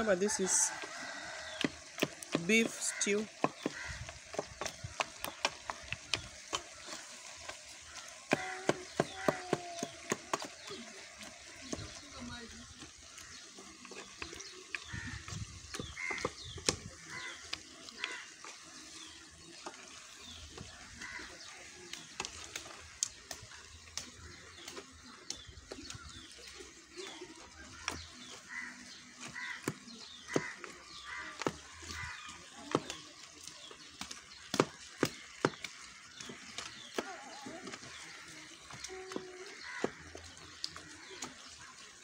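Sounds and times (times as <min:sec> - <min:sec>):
wooden spoon stirring stew in pot: 0:00.0 - 0:42.0.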